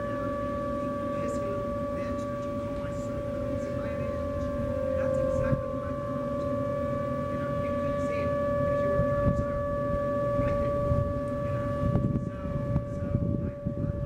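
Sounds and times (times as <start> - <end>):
civil defense siren steady tone: 0.0 - 14.0.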